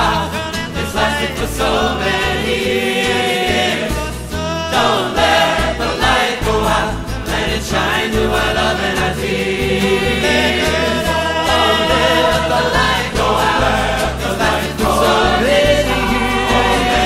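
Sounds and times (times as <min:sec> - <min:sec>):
instrumental accompaniment: 0:00.0 - 0:17.0
voices singing together: 0:00.0 - 0:17.0.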